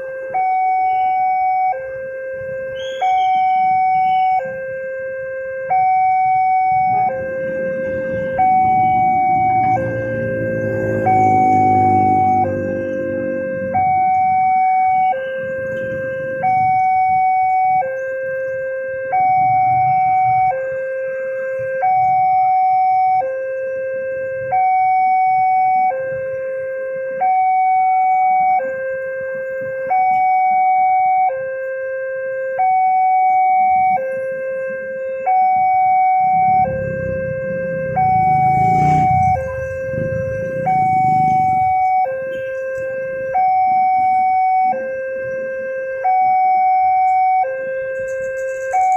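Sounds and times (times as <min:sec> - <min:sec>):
two-tone crossing alarm: 0:00.0 - 0:48.9.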